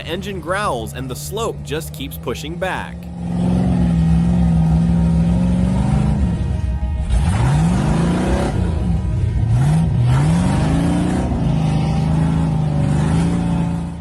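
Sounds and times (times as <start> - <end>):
tires spinning in mud: 0.0 - 14.0
truck engine revving: 0.0 - 14.0.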